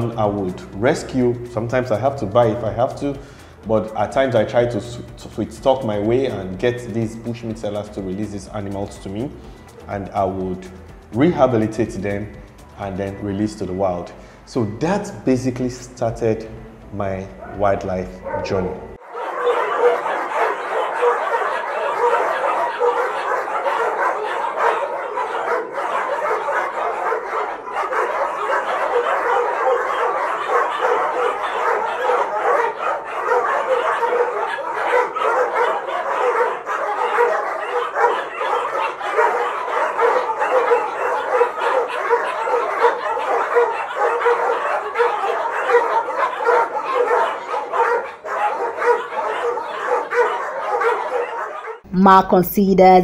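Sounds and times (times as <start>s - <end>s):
many dogs barking and yipping: 0.0s - 5.1s, 5.7s - 51.9s.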